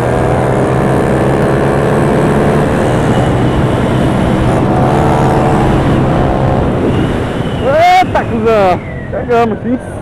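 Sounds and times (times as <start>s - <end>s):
motorcycle engine pulling hard: 0.0s - 9.1s
wind rushing over microphone: 0.0s - 10.0s.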